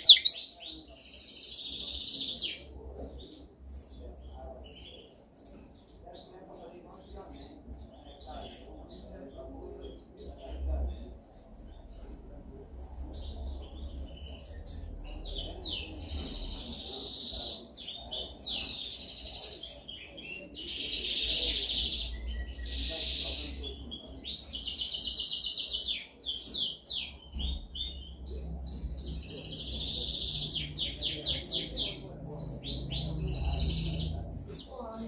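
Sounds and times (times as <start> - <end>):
canary singing trills: 0.0 - 12.1, 13.1 - 35.0.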